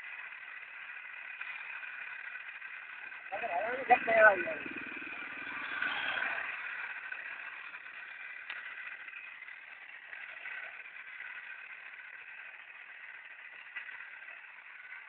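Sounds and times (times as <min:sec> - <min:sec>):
small electric motor whirring: 0:00.0 - 0:15.0.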